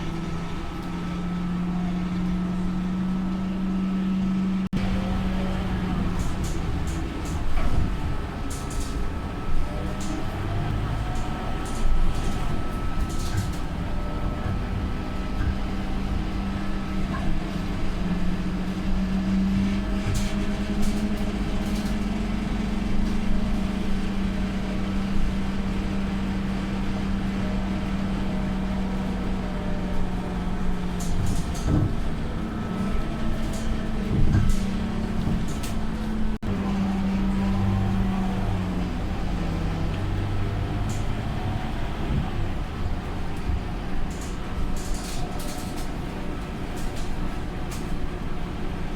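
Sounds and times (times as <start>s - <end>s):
bus diesel engine drone: 0.0s - 48.9s.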